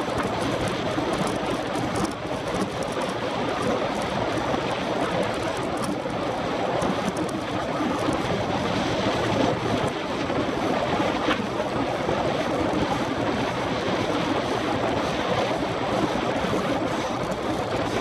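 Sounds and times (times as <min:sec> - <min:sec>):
bicycle tyres rolling on concrete: 0:00.0 - 0:18.0
wind rushing on microphone: 0:00.0 - 0:18.0.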